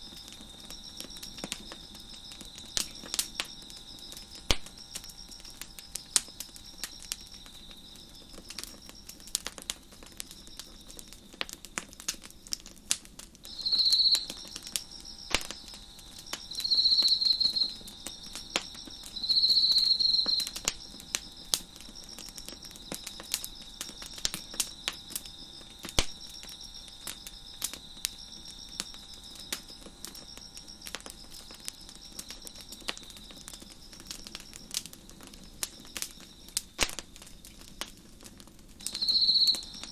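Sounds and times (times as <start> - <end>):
crickets chirping: 0.0 - 39.9
shrill insect trills: 0.0 - 39.9
wood fire crackling and popping: 0.0 - 39.9.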